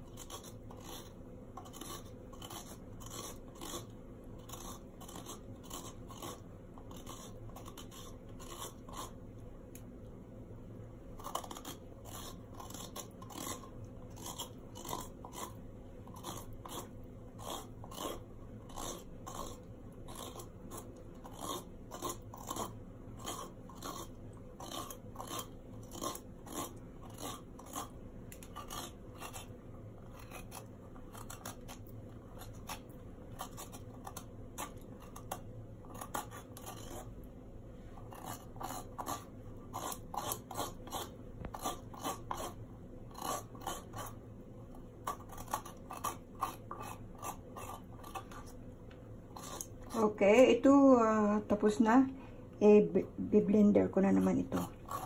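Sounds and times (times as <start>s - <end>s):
spoon scraping courgette flesh: 0.0s - 9.9s, 11.2s - 37.2s, 37.9s - 48.6s, 49.3s - 50.2s, 54.2s - 55.0s.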